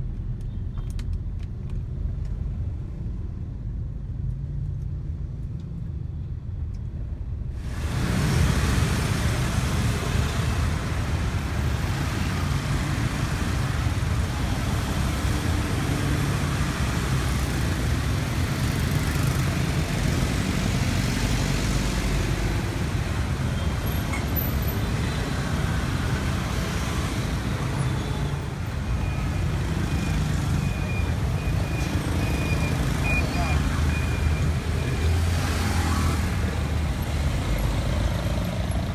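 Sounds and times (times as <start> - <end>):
motorbike and car traffic: 0.0 - 38.9.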